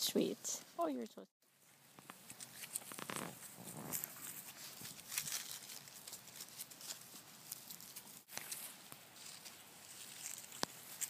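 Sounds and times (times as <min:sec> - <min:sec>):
puppies rustling in grass: 0:01.5 - 0:11.0.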